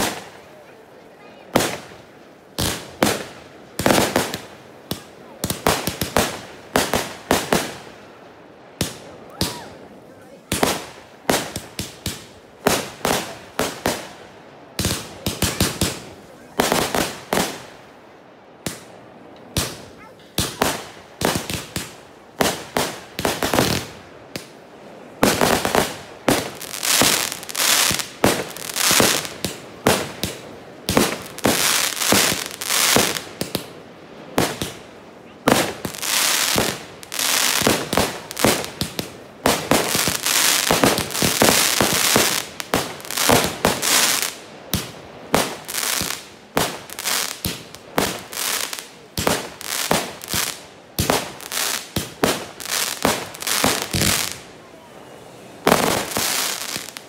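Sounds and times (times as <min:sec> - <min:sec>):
fireworks bangs and pops: 0:00.0 - 0:00.5, 0:01.4 - 0:02.0, 0:02.6 - 0:08.0, 0:08.8 - 0:09.7, 0:10.4 - 0:14.2, 0:14.8 - 0:17.8, 0:19.5 - 0:24.6, 0:25.2 - 0:54.5, 0:55.6 - 0:57.0
fireworks crackling: 0:00.0 - 0:57.0.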